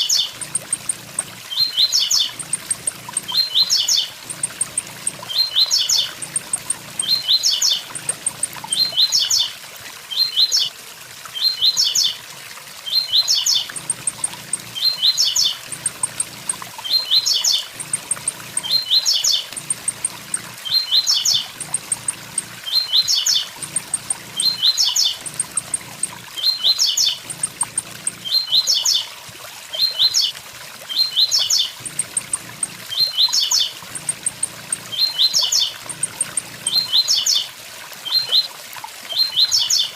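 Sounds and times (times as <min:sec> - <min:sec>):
bird singing short phrases: 0:00.0 - 0:09.5, 0:12.9 - 0:29.0, 0:30.9 - 0:37.5.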